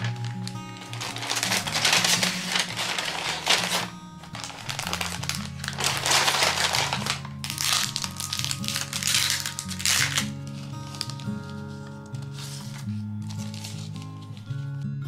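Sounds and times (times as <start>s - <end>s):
paper bag rustling and crinkling: 0.0s - 14.8s
background music with low notes: 0.0s - 15.0s.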